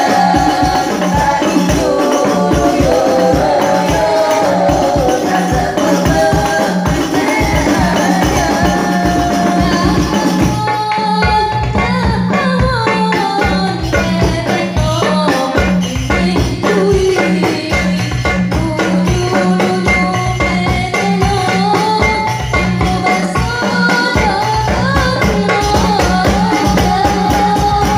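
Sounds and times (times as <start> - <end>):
frame drums beating: 0.0 - 27.9
woman singing into a microphone: 0.0 - 27.9.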